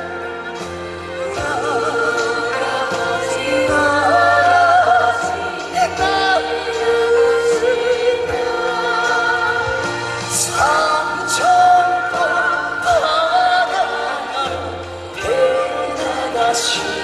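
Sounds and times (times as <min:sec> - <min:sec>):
band accompaniment: 0:00.0 - 0:17.0.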